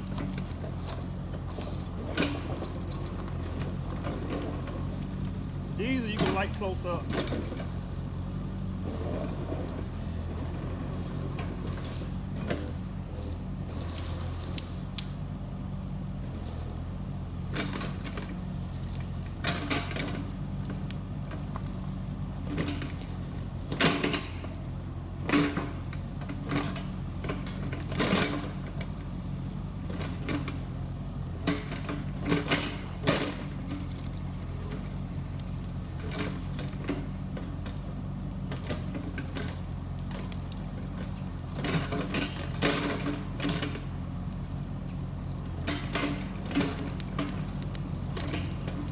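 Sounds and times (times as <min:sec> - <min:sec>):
sharp cracks and knocks: 0:00.0 - 0:07.8, 0:11.4 - 0:15.2, 0:17.5 - 0:24.6, 0:25.2 - 0:48.9
excavator diesel engine running: 0:00.0 - 0:48.9.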